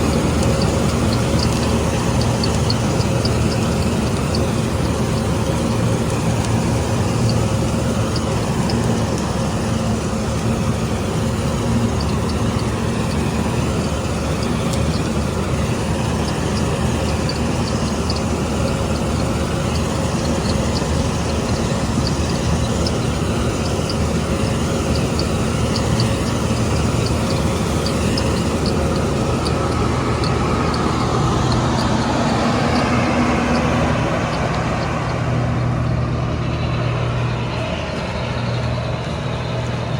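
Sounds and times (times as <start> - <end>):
combine harvester engine running: 0.0 - 39.9
faint regular machinery ticking: 0.0 - 39.9.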